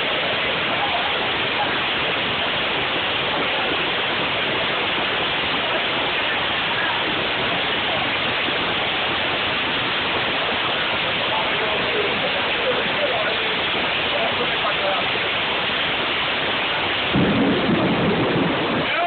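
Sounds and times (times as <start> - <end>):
heavy rain and hail: 0.0 - 19.0.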